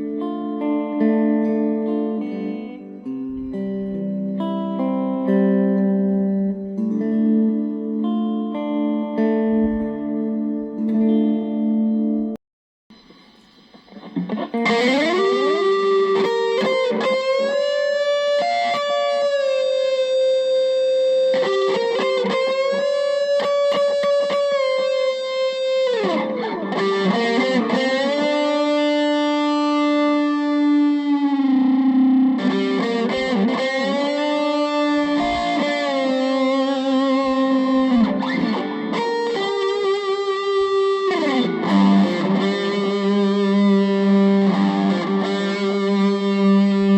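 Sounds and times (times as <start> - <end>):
electric guitar lead line: 0.0 - 46.9.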